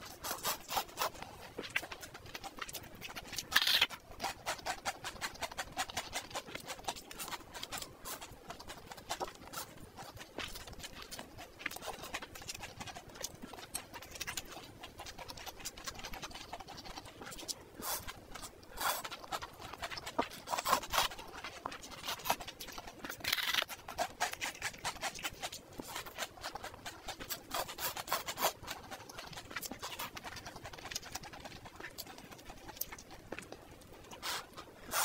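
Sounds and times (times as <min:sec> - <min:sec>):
wet chewing and mouth clicks: 0:00.0 - 0:35.0.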